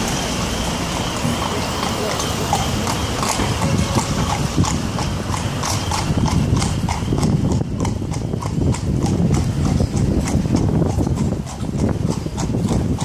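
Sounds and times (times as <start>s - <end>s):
hooves clip-clopping on wet pavement: 0.0s - 13.0s.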